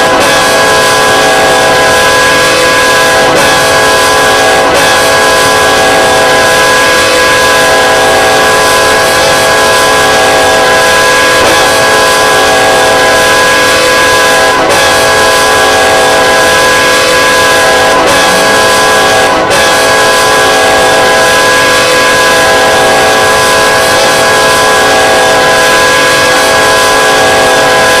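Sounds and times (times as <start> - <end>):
locomotive air horn chord: 0.0 - 28.0.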